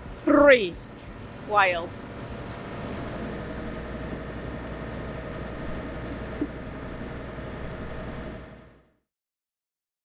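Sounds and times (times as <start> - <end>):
diesel engine drone: 0.0 - 9.0.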